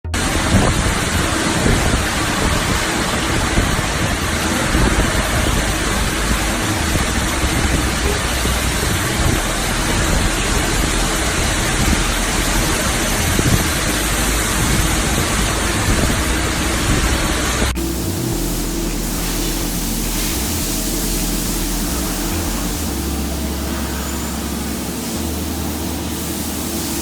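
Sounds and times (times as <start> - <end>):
lathe hissing: 0.2 - 27.0
faint low hum: 0.3 - 27.0.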